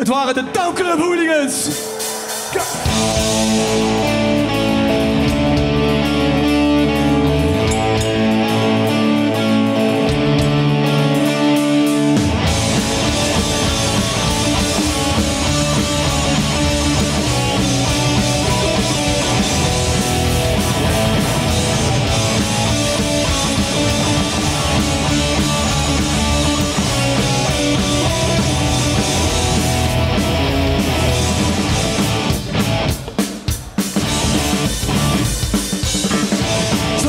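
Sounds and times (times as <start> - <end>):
drum kit: 0.0 - 37.0
distorted electric guitars: 1.5 - 37.0
bass guitar: 1.7 - 37.0.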